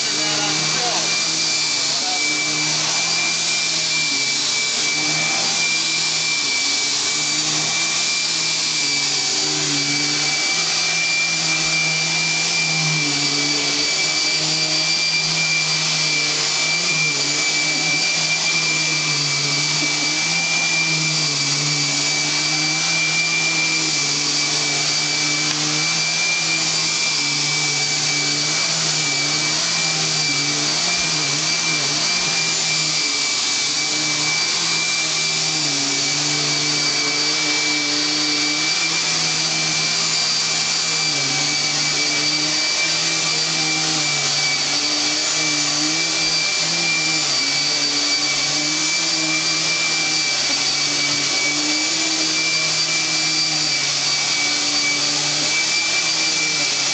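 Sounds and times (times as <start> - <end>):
vacuum cleaner running on carpet: 0.0 - 56.9.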